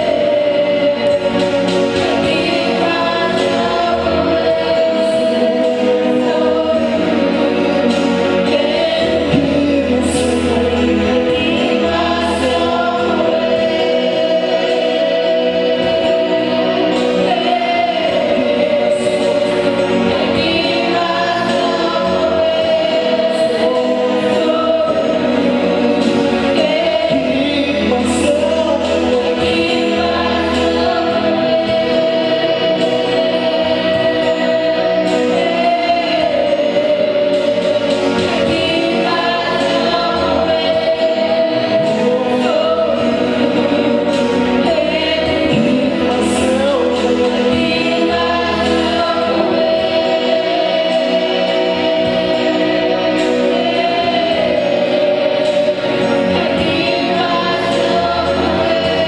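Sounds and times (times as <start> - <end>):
gospel choir singing: 0.0 - 59.0
instrumental accompaniment with bass: 0.0 - 59.0.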